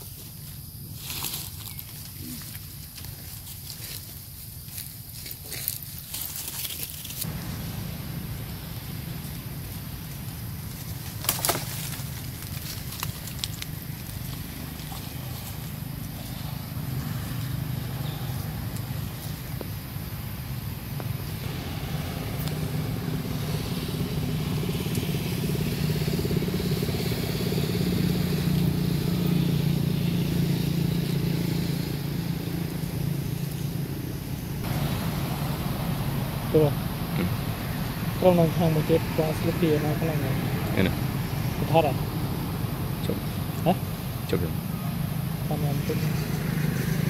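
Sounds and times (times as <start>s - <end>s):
engine running: 7.1s - 47.0s.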